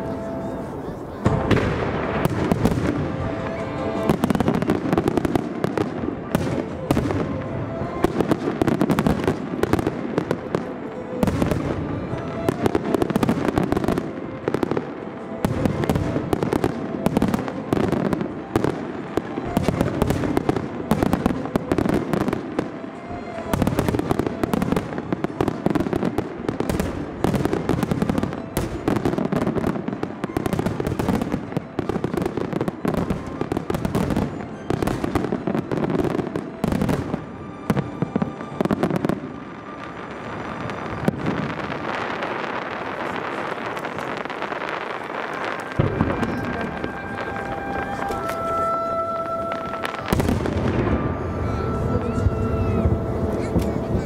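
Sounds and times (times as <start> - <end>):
background music: 0.0 - 54.0
firework crackle: 0.0 - 54.0.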